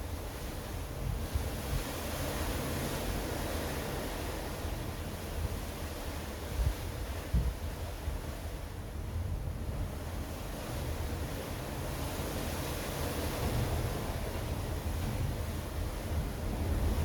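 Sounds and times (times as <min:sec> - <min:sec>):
ocean waves washing in: 0:00.0 - 0:17.0
wind rumble on microphone: 0:00.0 - 0:17.0.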